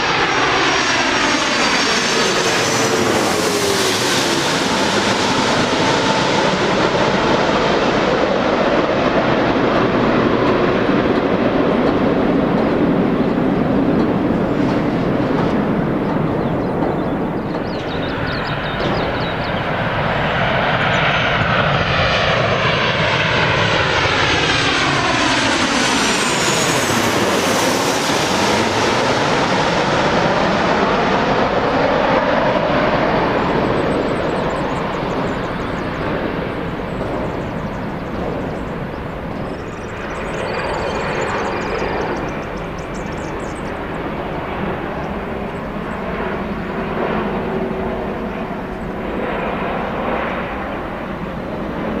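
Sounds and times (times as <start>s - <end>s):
jet airliner passing overhead: 0.0s - 52.0s.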